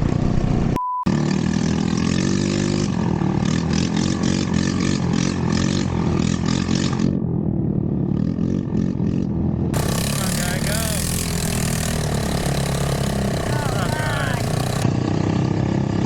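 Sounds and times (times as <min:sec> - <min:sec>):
off-road buggy engine running: 0:00.0 - 0:16.0.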